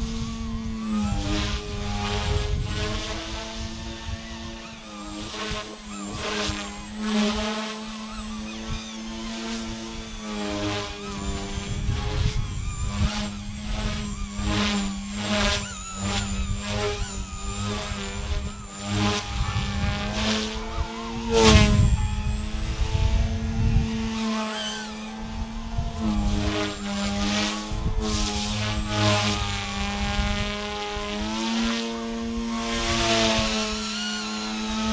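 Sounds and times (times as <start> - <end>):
rc helicopter motor whining: 0.0 - 34.9
rotor buzzing: 0.0 - 34.9.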